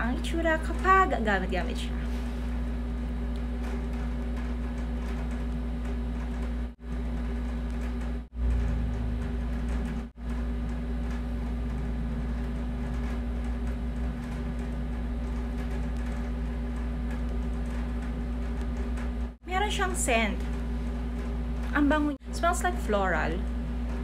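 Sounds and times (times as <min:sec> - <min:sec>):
machine-like hum: 0:00.0 - 0:24.0.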